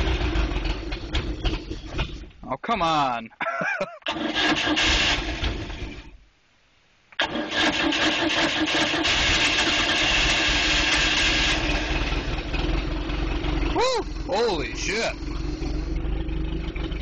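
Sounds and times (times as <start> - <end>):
boat engine starting and running: 0.0 - 2.4, 4.1 - 6.1, 7.2 - 17.0.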